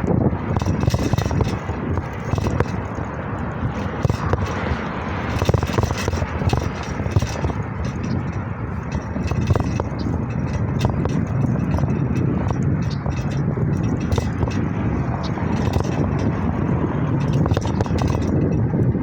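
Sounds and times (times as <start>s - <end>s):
bike rattles and clicks: 0.0s - 19.0s
tyres rumbling on rough surface: 0.0s - 19.0s.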